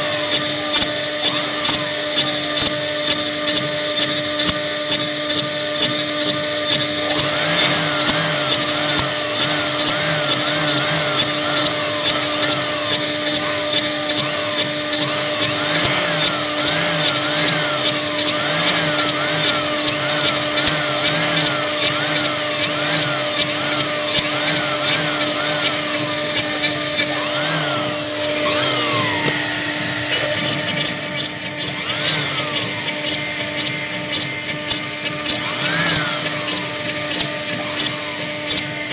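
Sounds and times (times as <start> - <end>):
cnc router motor whine: 0.0 - 38.9
sharp ticks: 0.0 - 38.9.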